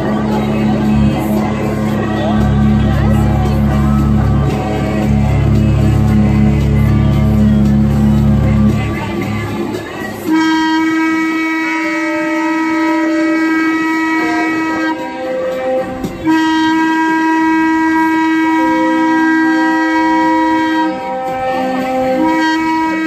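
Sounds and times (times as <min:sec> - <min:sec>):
ship horn blasts: 0:00.0 - 0:23.0.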